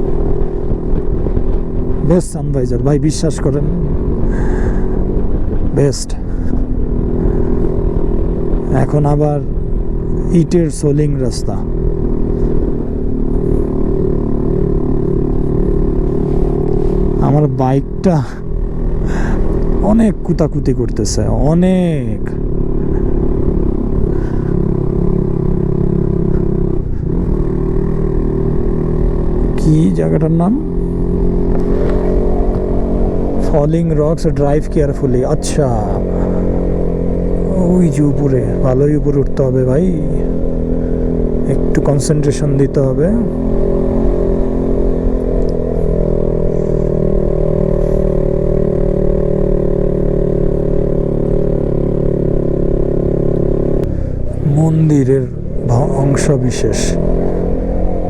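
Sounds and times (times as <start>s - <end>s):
clatter on rough road: 0.0s - 57.9s
low rumble: 0.0s - 58.0s
motorcycle engine straining: 0.0s - 58.0s.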